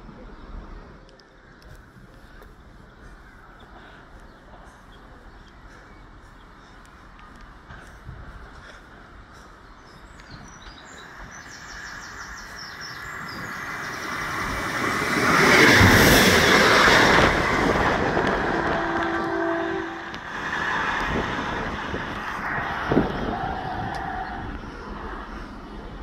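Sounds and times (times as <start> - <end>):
diesel train passing: 1.9 - 26.0.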